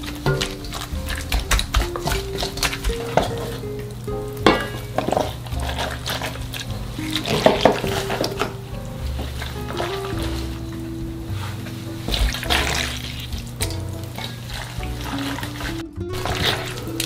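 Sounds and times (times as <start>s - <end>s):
hands tossing wet greens in bowl: 0.0s - 17.0s.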